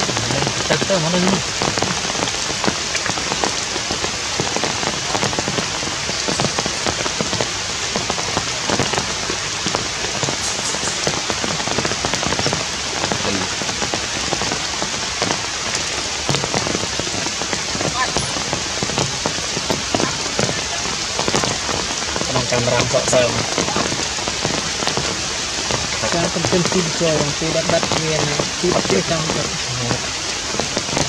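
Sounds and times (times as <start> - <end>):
heavy rain: 0.0 - 31.0
raindrops striking close by: 0.0 - 31.0.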